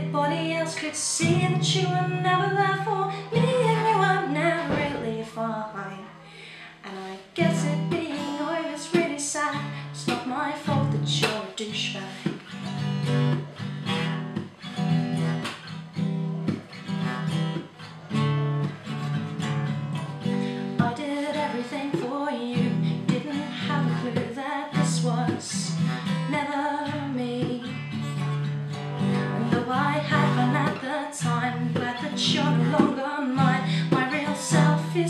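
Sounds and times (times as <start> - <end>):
acoustic guitar strumming chords: 0.0 - 6.0, 7.1 - 35.0
woman singing: 0.0 - 13.7, 20.2 - 35.0.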